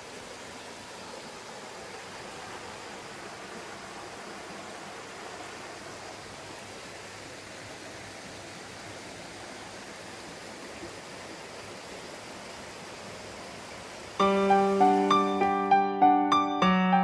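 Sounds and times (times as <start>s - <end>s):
stream rushing over rocks: 0.0s - 16.1s.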